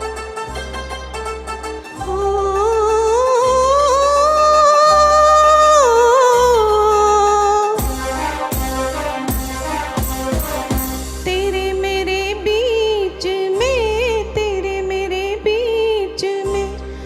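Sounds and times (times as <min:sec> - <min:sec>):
keyboard backing music: 0:00.0 - 0:17.0
pulsing bass: 0:00.0 - 0:17.0.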